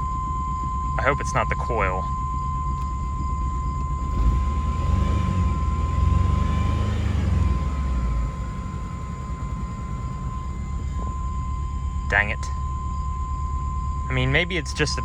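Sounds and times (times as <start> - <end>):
engine running rough: 0.0 - 15.0
steady high whine: 0.0 - 15.0.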